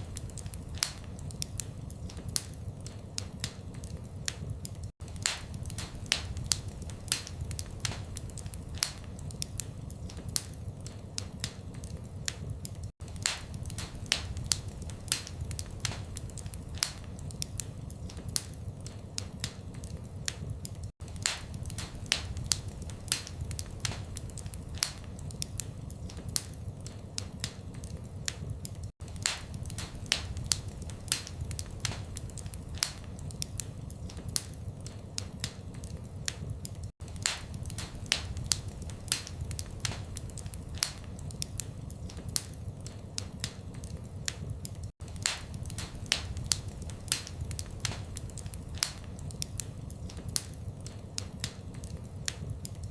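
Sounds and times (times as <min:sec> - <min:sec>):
fireplace fire crackling: 0:00.0 - 0:52.9.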